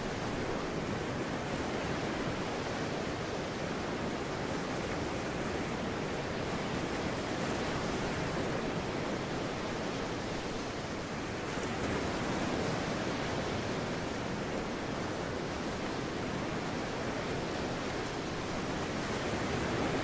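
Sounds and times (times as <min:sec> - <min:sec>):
ocean surf breaking on rocks: 0:00.0 - 0:20.0.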